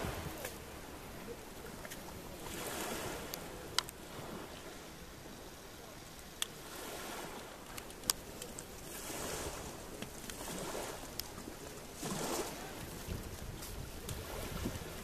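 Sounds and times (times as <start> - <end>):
waves lapping on pebble beach: 0.0 - 15.0.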